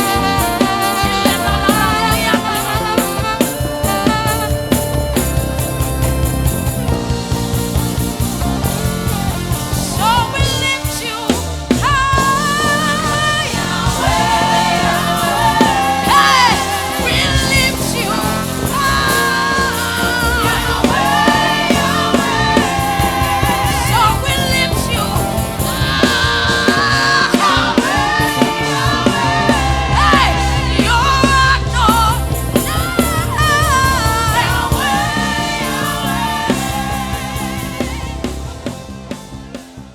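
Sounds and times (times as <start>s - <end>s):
backing voices: 0.0s - 39.9s
band with bass and drums: 0.0s - 39.9s
lead singer: 0.0s - 39.9s.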